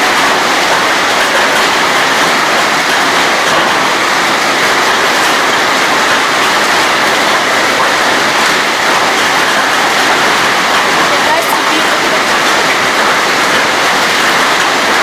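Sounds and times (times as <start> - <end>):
hailstones clattering: 0.0 - 15.0.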